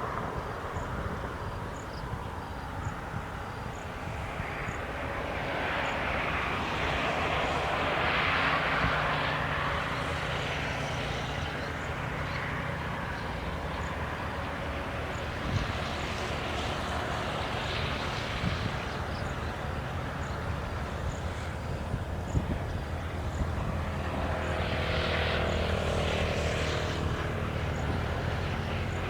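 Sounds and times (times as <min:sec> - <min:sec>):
engine drone: 0:02.8 - 0:29.0.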